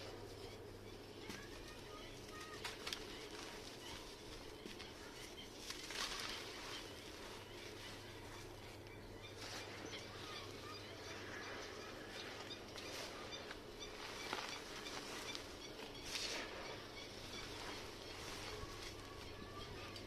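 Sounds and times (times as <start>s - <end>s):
faint bird chirps: 0.0s - 20.0s
sand clumps crumbling: 1.2s - 20.0s
sand crunch: 1.3s - 20.0s.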